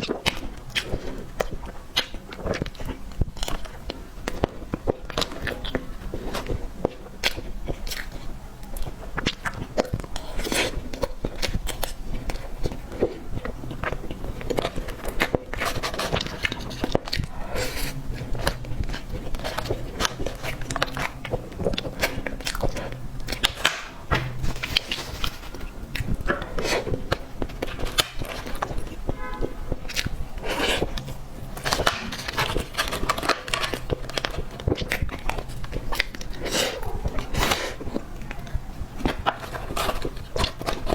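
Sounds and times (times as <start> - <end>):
chewing and biting cake: 0.0 - 40.9.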